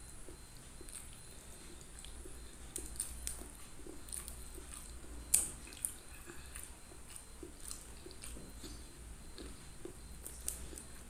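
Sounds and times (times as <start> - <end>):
chewing and wet mouth noises: 0.0 - 11.0.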